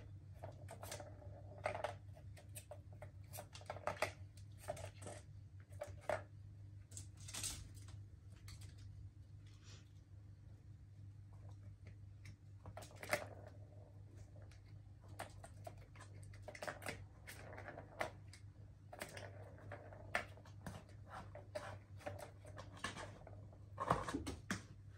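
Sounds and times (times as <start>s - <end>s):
faint low hum: 0.0s - 24.9s.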